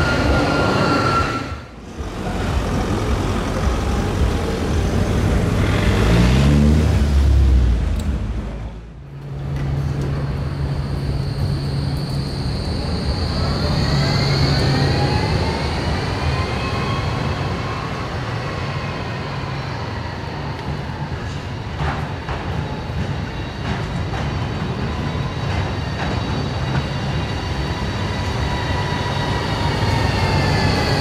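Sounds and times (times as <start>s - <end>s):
tram electric hum: 0.0s - 31.0s
tram whine: 0.0s - 31.0s.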